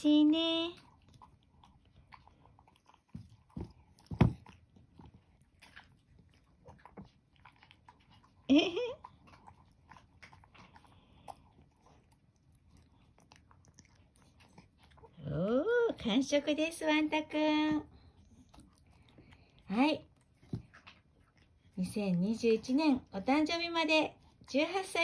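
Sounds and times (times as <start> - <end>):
dog chewing food: 0.5 - 25.0.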